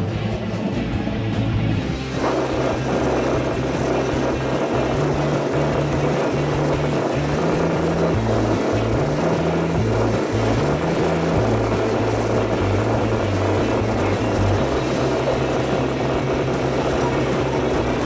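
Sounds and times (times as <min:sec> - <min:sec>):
train wheels rumbling: 0:02.1 - 0:18.0.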